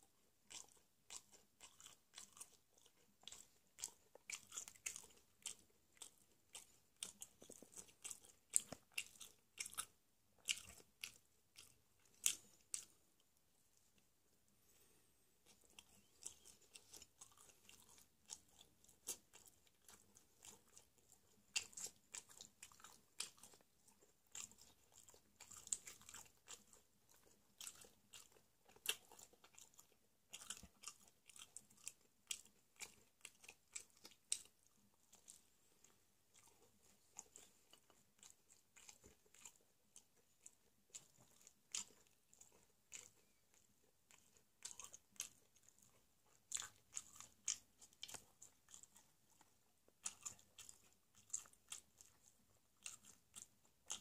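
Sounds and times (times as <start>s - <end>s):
chewing crusty pizza crunches: 0.4s - 13.0s, 14.7s - 54.0s.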